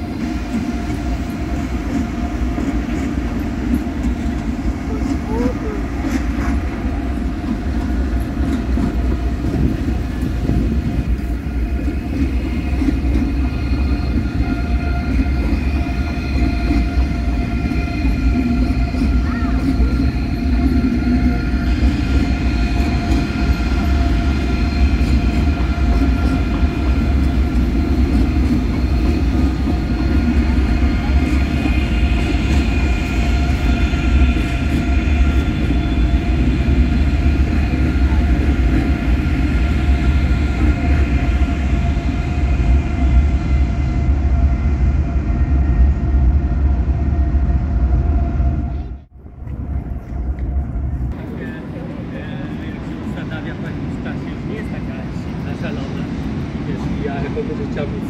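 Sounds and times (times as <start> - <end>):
train rumbling over bridge: 0.0 - 58.0.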